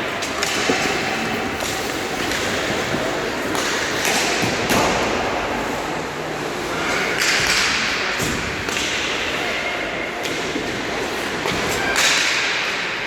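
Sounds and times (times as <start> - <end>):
knocks of sticks and puck: 0.0 - 5.8, 6.7 - 9.4, 10.1 - 13.0.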